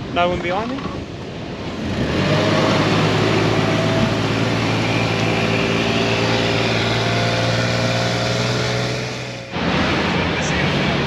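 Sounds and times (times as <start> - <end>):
car engine pulling steadily: 0.4 - 11.0.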